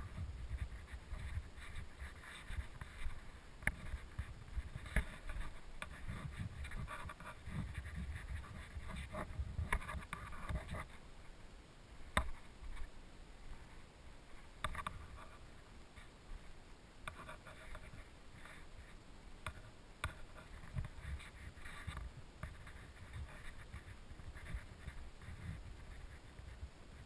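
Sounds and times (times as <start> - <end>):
low rumble and rustling: 0.0 - 27.0.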